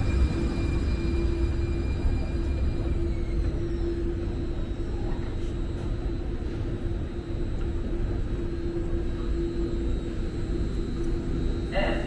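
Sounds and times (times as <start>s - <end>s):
light rail car rumble: 0.0s - 12.0s.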